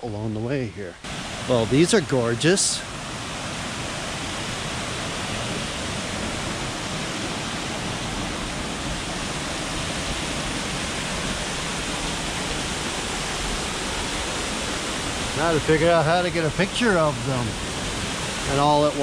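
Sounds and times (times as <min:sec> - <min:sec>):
waterfall rushing over rocks: 0:01.0 - 0:19.0.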